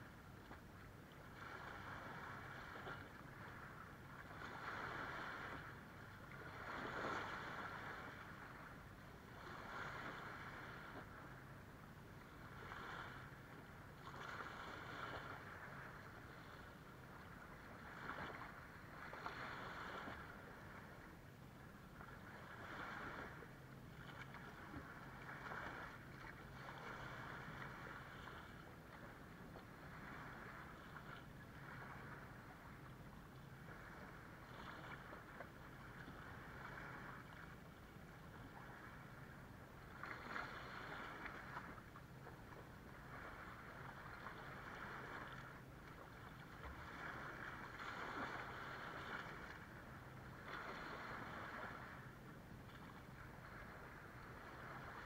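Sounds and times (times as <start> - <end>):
small waves washing on sand: 0.0 - 55.0.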